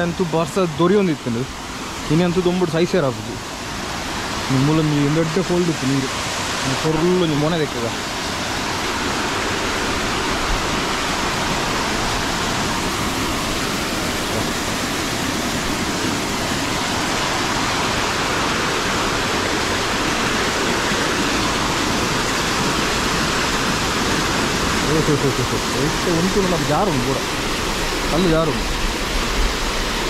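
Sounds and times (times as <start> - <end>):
waterfall pouring over rocks: 0.0 - 30.0.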